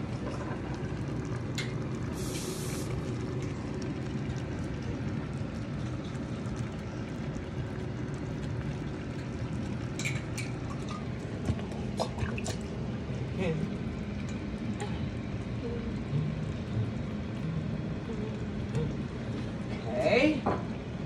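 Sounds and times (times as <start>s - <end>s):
food simmering in a skillet: 0.0s - 21.0s.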